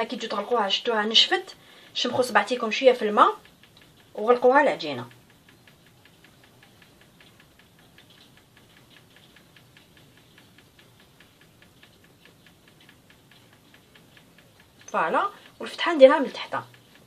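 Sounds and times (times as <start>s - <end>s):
rapid mechanical ticking: 0.0s - 17.0s.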